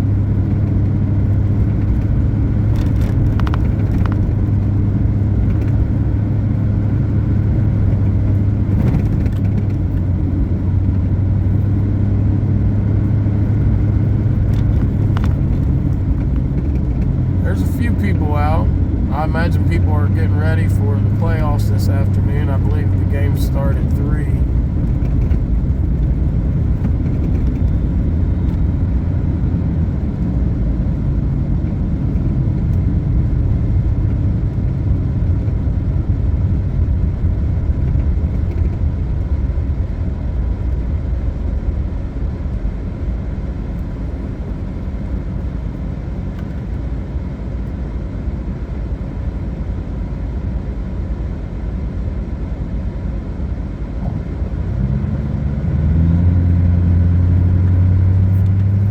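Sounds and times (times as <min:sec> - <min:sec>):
vehicle road and engine rumble: 0:00.0 - 0:58.9.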